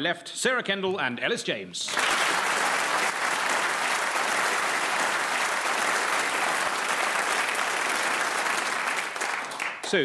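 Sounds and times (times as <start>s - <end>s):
studio audience applauding: 1.9s - 10.0s.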